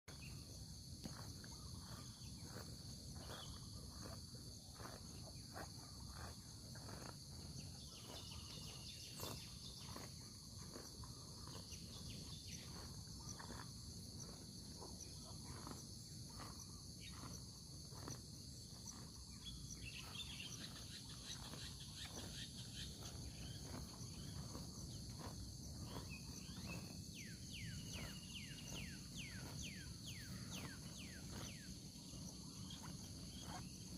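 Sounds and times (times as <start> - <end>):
high insect drone: 0.1 - 33.9.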